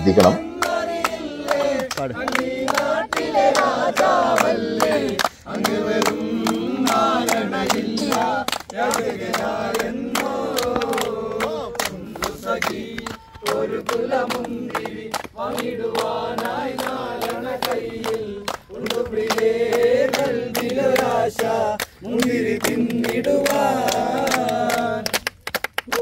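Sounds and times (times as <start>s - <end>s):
voices chanting in unison: 0.0s - 25.2s
sharp claps: 0.2s - 26.0s.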